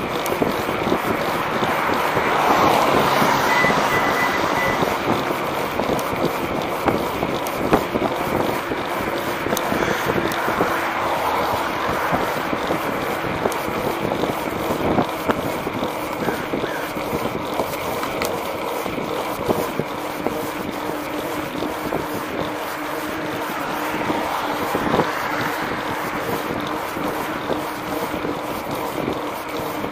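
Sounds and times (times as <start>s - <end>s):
wind rushing over microphone: 0.0s - 17.5s, 19.0s - 29.9s
tyre rolling on pavement: 0.0s - 29.9s.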